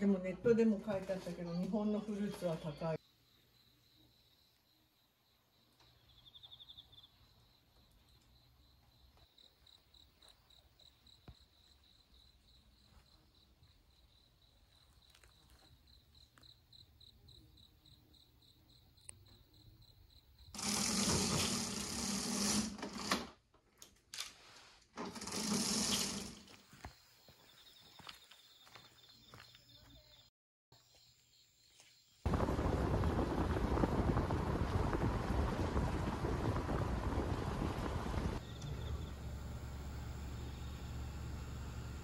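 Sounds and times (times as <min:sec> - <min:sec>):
insects trilling: 0:02.5 - 0:22.6, 0:25.2 - 0:41.9.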